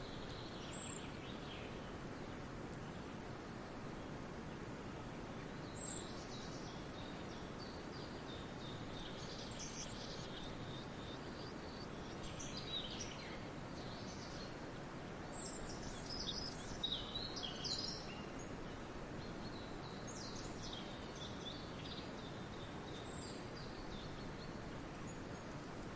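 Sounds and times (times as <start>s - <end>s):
background hiss: 0.0s - 25.9s
songbirds chirping: 0.0s - 25.9s.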